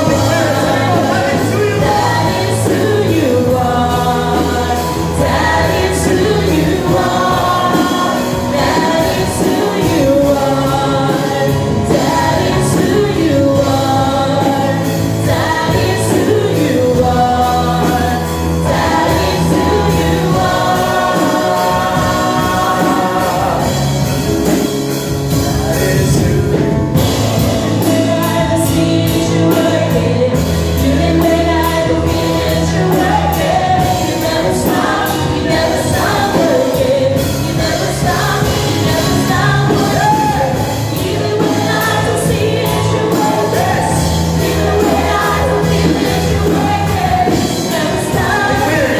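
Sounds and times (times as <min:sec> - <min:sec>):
group of voices singing: 0:00.0 - 0:48.9
instrumental accompaniment: 0:00.0 - 0:48.9.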